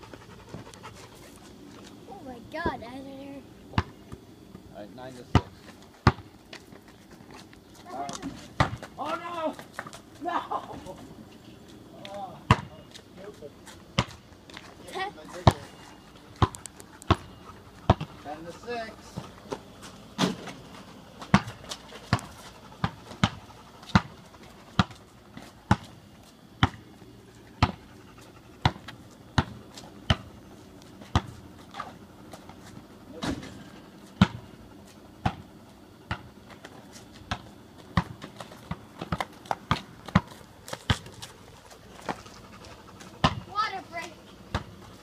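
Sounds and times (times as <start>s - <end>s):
basketball bouncing on asphalt: 3.7s - 4.6s, 5.2s - 10.0s, 11.9s - 14.7s, 15.3s - 27.9s, 28.6s - 32.7s, 33.3s - 45.0s.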